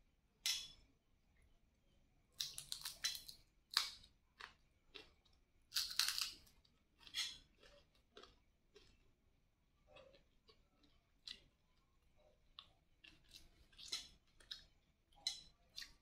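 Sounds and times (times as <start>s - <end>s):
crunchy chewing: 2.3s - 16.0s.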